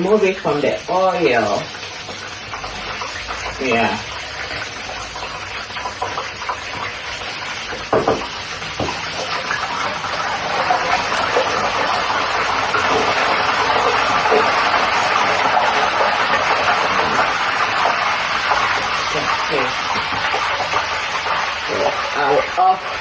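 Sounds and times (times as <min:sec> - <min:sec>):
oil sizzling in a pan: 0:00.0 - 0:23.0.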